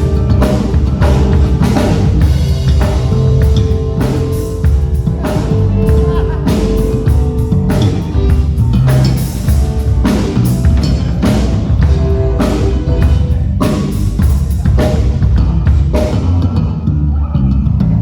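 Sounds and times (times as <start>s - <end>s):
live band playing instrumental: 0.0s - 16.3s
drum kit beat: 0.0s - 16.4s.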